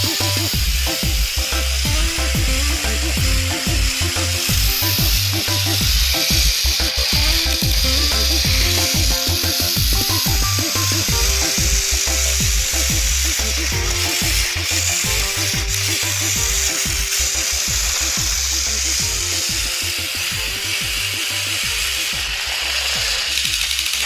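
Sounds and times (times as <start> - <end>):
background music: 0.0 - 24.0
toy train motors whirring: 0.0 - 24.0.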